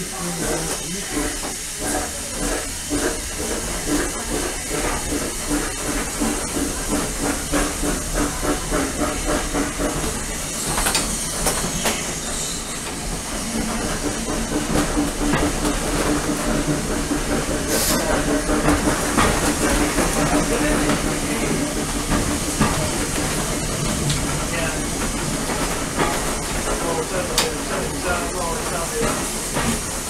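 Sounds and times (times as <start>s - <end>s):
steam hissing: 0.0s - 30.0s
steam locomotive chuffing: 0.0s - 30.0s
locomotive clanks: 0.3s - 30.0s.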